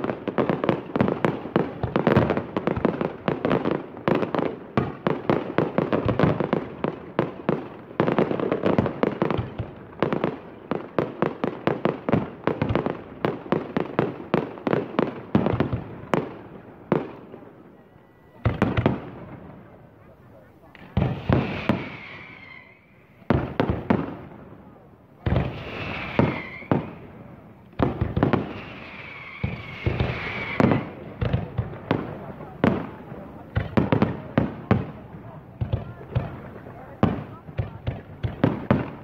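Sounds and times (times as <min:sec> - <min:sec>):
fireworks launching and bursting: 0:00.0 - 0:39.0.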